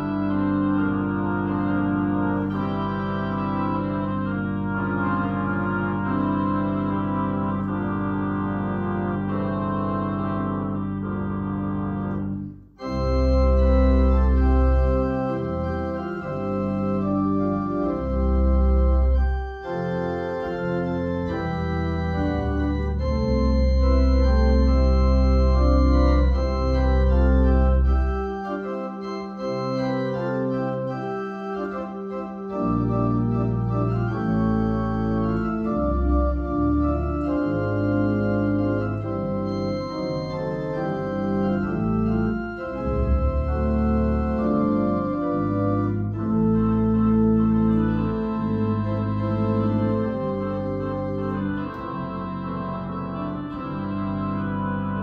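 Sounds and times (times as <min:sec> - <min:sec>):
organ chords with pedal bass: 0:00.0 - 0:55.0.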